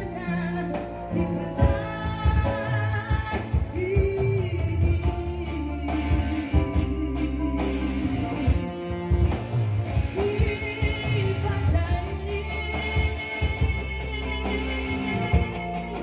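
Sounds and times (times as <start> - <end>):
pop song over loudspeakers: 0.0 - 16.0.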